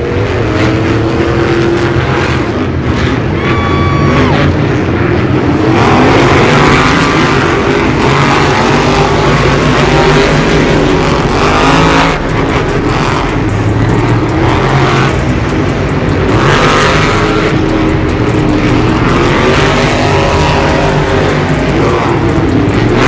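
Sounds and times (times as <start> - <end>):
truck engines revving loudly: 0.0 - 23.0.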